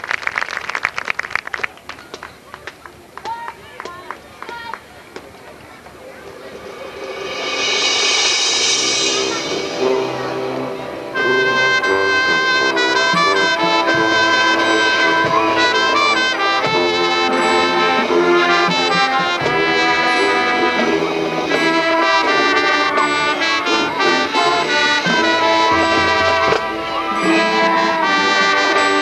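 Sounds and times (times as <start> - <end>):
marching band playing: 5.6 - 29.0.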